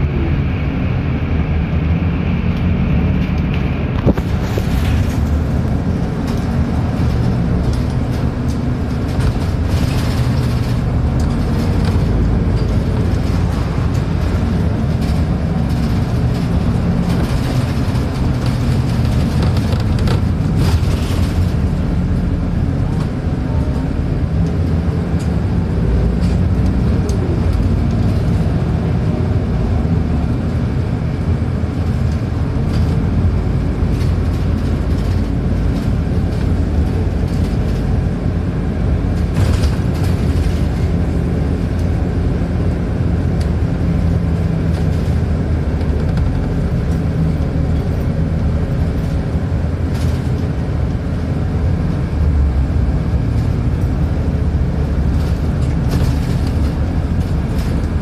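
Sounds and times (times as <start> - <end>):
bus engine humming: 0.0 - 58.0
road noise: 0.0 - 58.0.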